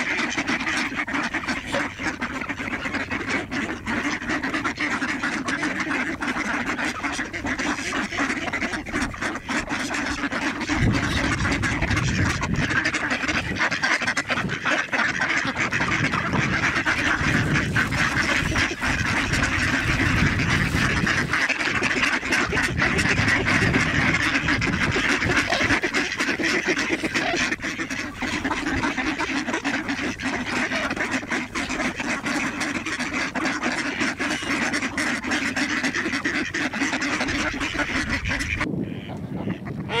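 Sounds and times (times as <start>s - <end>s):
ducks quacking: 0.0s - 40.0s
geese honking: 0.0s - 40.0s.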